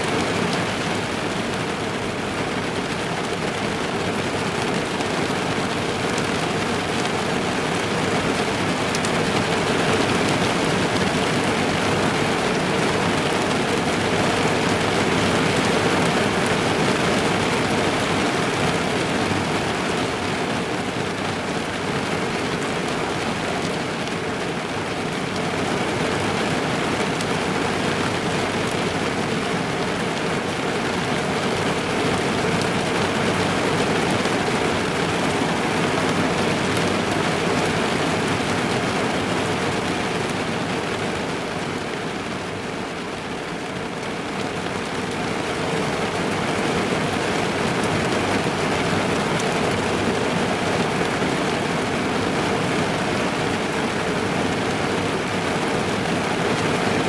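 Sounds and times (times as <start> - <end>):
rain on car roof: 0.1 - 57.0.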